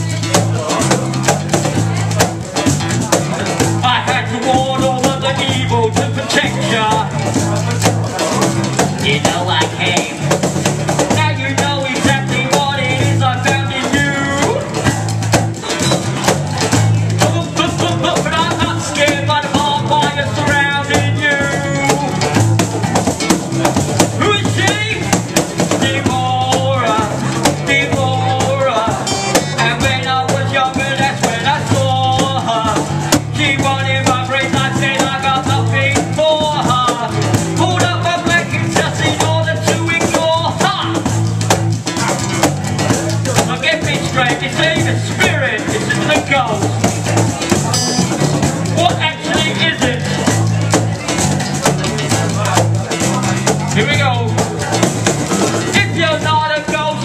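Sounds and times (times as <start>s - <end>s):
rapping: 0.0s - 22.4s, 23.6s - 47.5s, 48.6s - 54.8s, 55.6s - 57.0s
bass guitar: 0.0s - 57.0s
cajon beat: 0.0s - 57.0s
strummed acoustic guitar: 0.0s - 57.0s.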